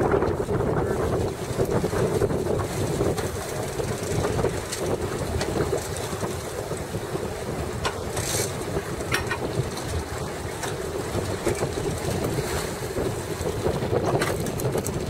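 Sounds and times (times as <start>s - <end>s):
boat engine rumble: 0.0s - 15.0s
sea noise: 0.0s - 15.0s
wind: 0.0s - 15.0s.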